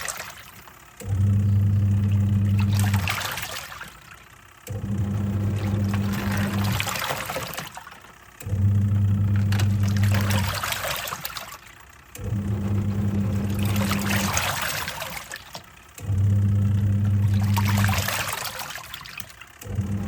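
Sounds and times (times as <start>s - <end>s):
washing machine motor humming: 0.0s - 20.0s
water swishing in tub: 0.0s - 20.0s.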